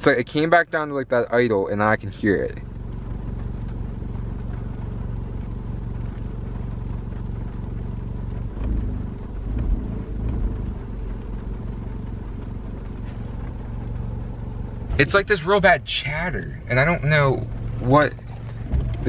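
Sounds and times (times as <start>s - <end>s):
car engine idling: 0.0s - 19.0s
clutch chattering: 0.0s - 19.0s.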